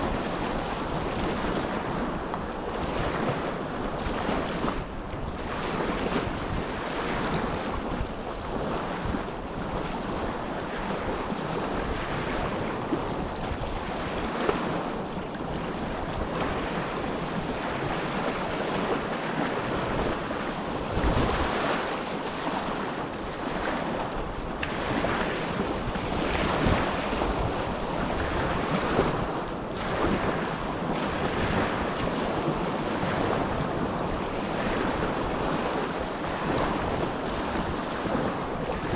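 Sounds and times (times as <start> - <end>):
small waves lapping on shore: 0.0 - 38.9
wind buffeting microphone: 0.0 - 38.9.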